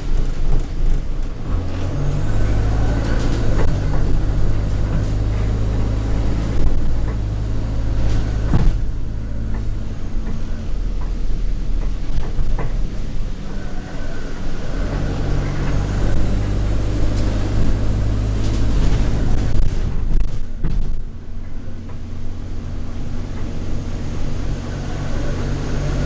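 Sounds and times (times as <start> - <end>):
bus body rattling and knocking: 0.0 - 26.0
bus diesel engine: 0.0 - 26.0.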